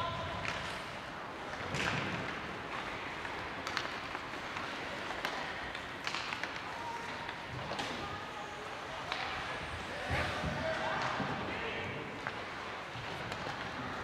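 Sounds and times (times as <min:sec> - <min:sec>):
ice rink noise: 0:00.0 - 0:14.0.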